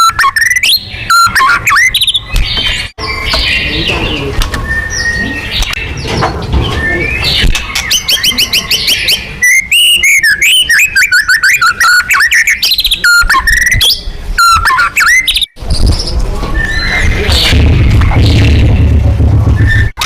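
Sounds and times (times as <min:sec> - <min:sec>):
bird singing whistles and trills: 0:00.0 - 0:17.4.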